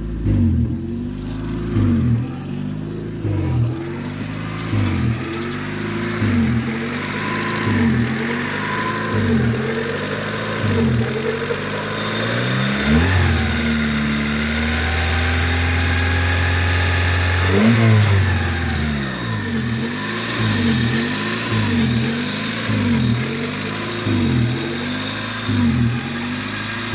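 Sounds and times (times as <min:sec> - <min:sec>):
car engine idling unevenly: 0:00.0 - 0:26.9
engine revving: 0:00.0 - 0:26.9.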